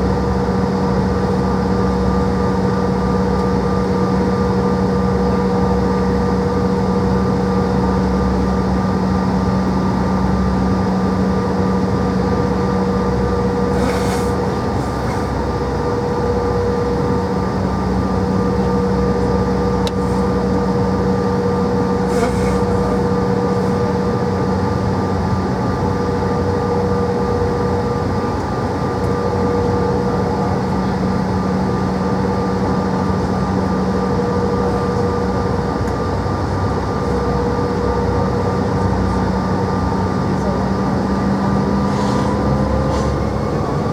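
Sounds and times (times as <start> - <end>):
jet engines droning: 0.0 - 43.9.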